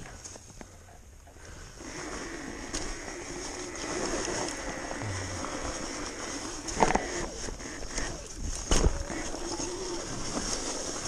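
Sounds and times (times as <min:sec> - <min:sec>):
electric motorbike motor whining: 0:01.8 - 0:11.0.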